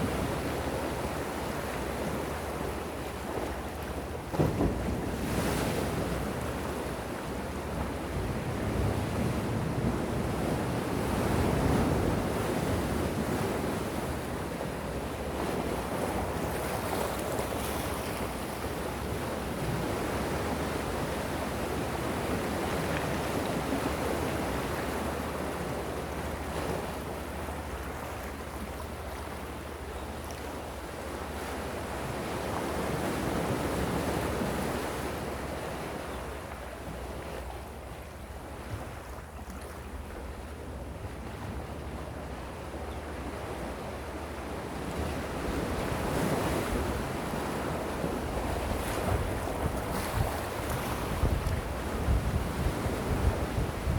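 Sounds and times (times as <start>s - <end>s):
ocean waves washing ashore: 0.0s - 53.9s.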